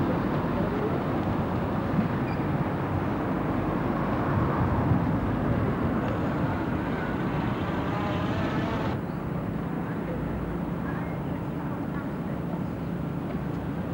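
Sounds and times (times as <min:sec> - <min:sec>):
low rumble of traffic: 0:00.0 - 0:13.9.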